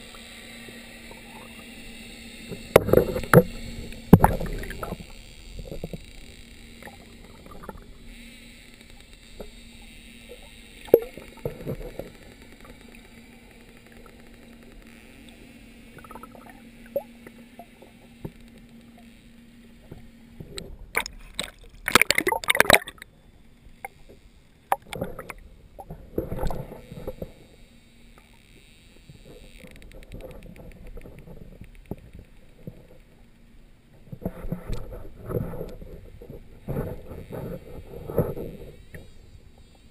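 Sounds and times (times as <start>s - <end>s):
faint steady hum: 0.0s - 39.9s
underwater sloshing and gurgling: 0.0s - 39.9s.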